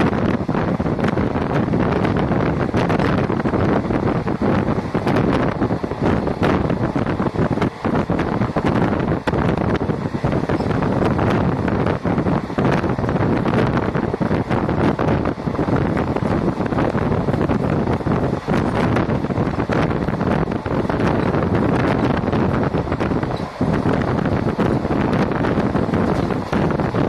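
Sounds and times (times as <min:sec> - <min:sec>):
train running noise: 0:00.0 - 0:27.0
wind buffeting microphone: 0:00.0 - 0:27.0.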